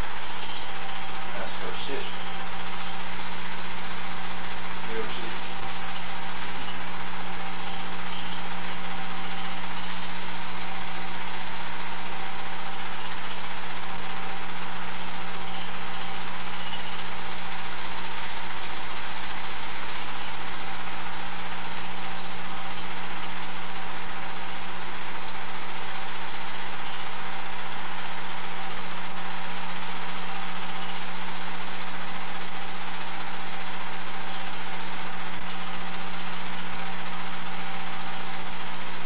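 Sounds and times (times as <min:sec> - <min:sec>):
film projector whirring: 0:00.0 - 0:39.0.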